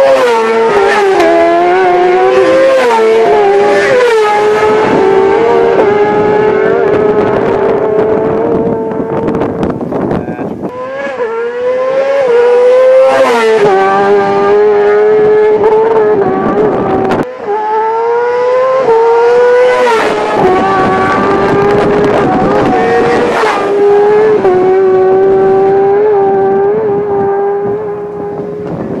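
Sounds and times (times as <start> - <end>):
motorcycle engines revving past: 0.0 - 29.0.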